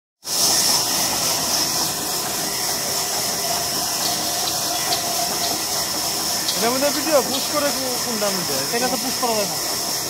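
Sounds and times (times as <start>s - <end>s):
band saw cutting timber: 0.3s - 10.0s.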